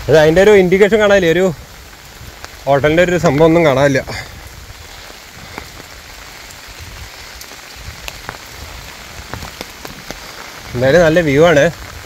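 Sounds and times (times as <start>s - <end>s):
raindrops ticking nearby: 0.0s - 12.0s
steady rain: 0.0s - 12.0s.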